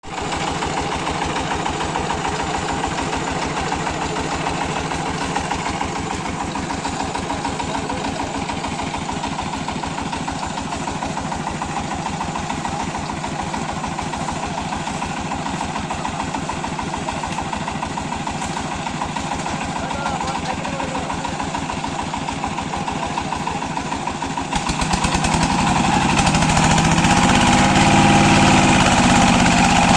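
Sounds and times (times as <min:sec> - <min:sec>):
power tiller engine running: 0:00.0 - 0:29.9.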